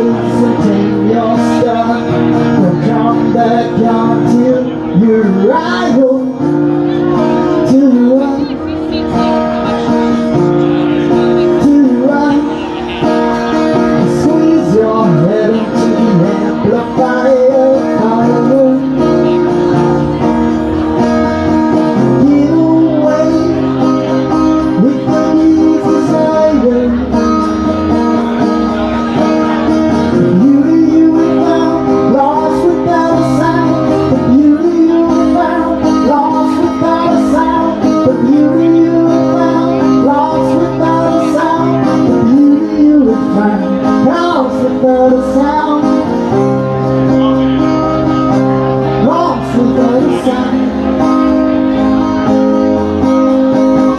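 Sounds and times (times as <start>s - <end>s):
acoustic guitar strumming: 0.0s - 53.9s
man singing into a microphone: 0.0s - 53.9s.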